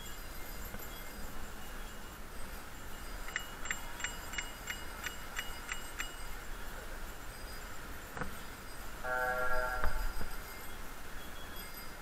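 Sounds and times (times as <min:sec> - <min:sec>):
bicycle bell ringing: 0:00.0 - 0:12.0.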